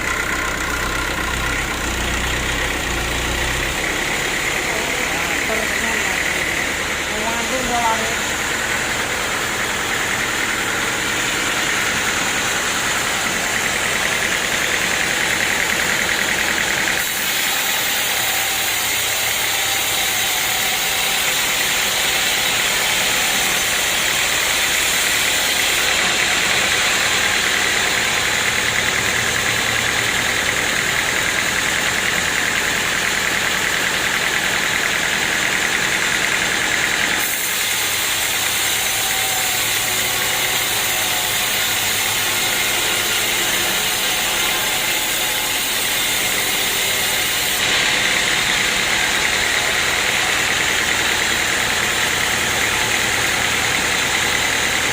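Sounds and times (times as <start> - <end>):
sawmill cutting log: 0.0 - 54.9.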